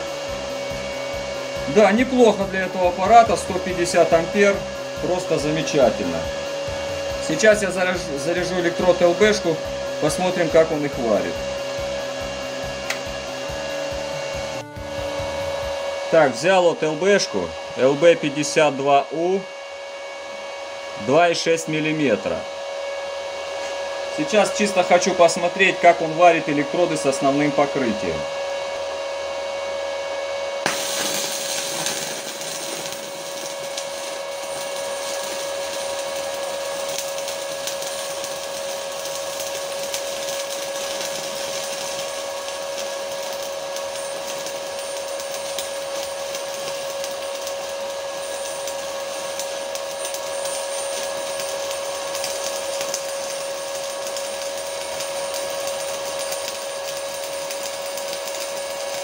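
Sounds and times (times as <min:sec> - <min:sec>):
welding arc hissing: 0:00.0 - 0:19.3, 0:23.6 - 0:28.2, 0:30.6 - 0:59.0
steady whine: 0:00.0 - 0:59.0.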